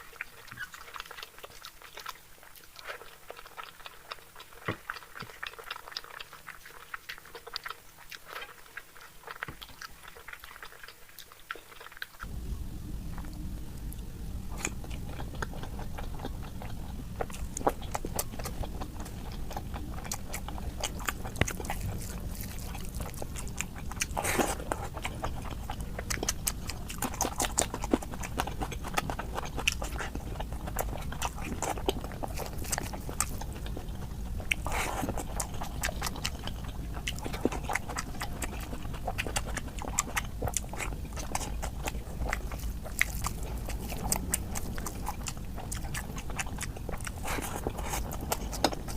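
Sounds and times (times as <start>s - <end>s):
chewing and mouth smacking: 0.0s - 12.3s, 13.1s - 48.9s
low steady hum: 0.0s - 48.9s.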